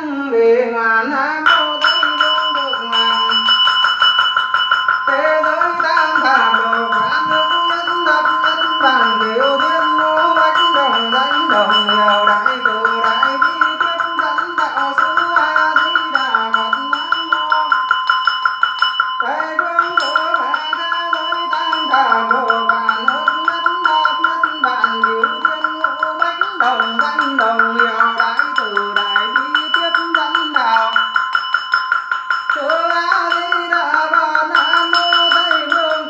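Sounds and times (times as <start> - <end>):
ringing drone: 0.0 - 36.0
fast pulsing beat: 1.4 - 36.0
wavering melodic line: 1.4 - 36.0.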